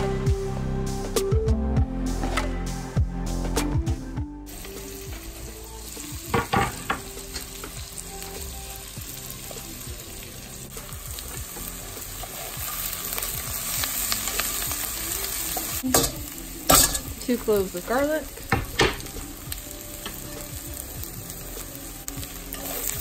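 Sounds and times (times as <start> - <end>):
onions sizzling in hot oil: 4.5 - 23.0.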